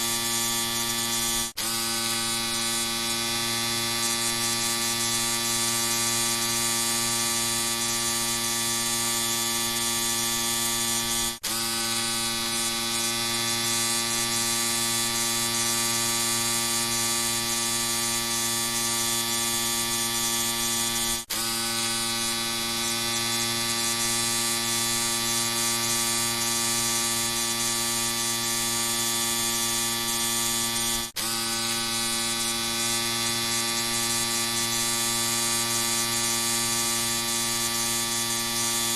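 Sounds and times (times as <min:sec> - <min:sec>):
electric shaver buzzing: 0:00.0 - 0:38.9.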